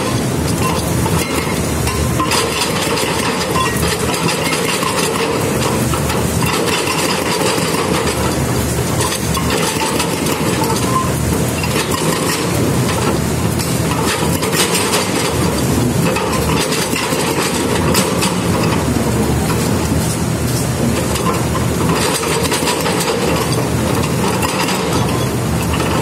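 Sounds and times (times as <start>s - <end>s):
excavator engine running: 0.0s - 26.0s
hydraulic breaker pounding concrete: 0.0s - 26.0s.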